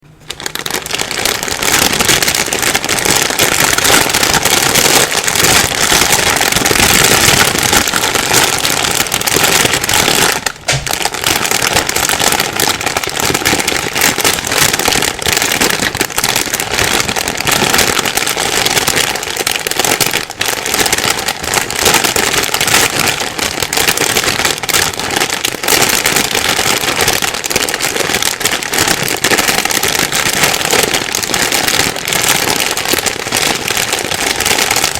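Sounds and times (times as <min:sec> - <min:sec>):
plastic bag rustling and crumpling: 0:00.1 - 0:34.9.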